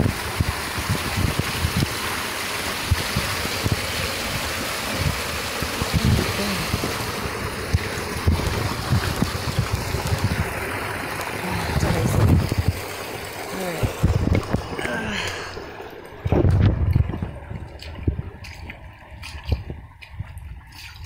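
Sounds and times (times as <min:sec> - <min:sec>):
wind buffeting microphone: 0:00.0 - 0:14.9, 0:16.1 - 0:20.9
rushing water: 0:00.0 - 0:21.0.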